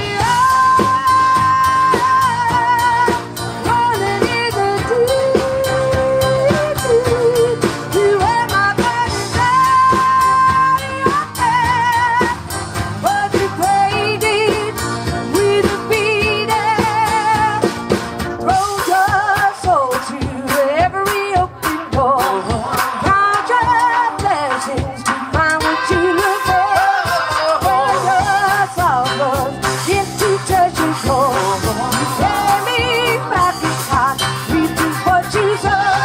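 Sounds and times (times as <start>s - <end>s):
live band music: 0.0s - 36.0s.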